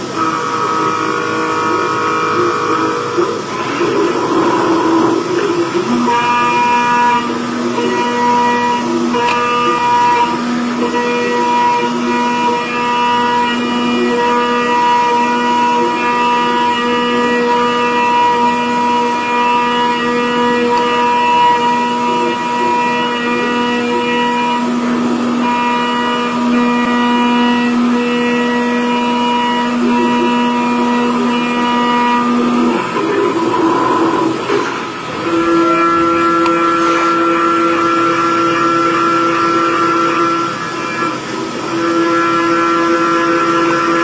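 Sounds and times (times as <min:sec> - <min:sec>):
lathe machine whine: 0:00.0 - 0:44.0.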